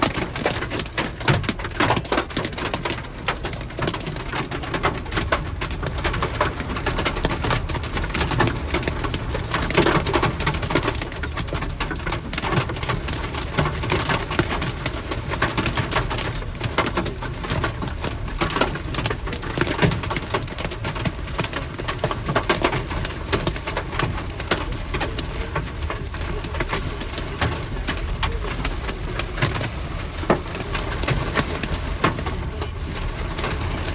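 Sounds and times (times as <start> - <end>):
hail clattering on hard surfaces: 0.0 - 33.9.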